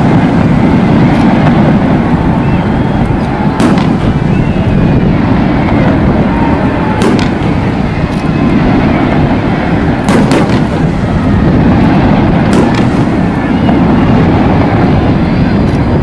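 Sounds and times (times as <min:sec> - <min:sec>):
fireworks booming: 0:00.0 - 0:16.0
sharp fireworks cracks: 0:00.0 - 0:16.0.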